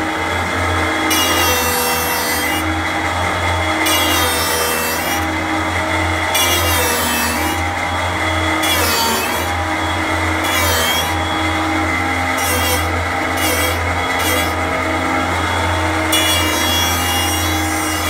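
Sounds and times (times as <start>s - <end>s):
lathe motor hum: 0.0s - 18.0s
tool cutting wood: 0.0s - 18.0s.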